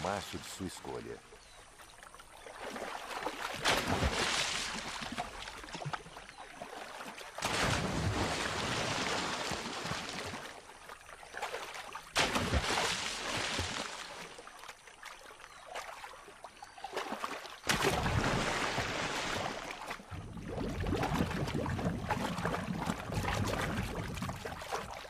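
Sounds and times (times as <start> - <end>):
caiman head slapping water: 2.0 - 10.6, 11.2 - 25.0.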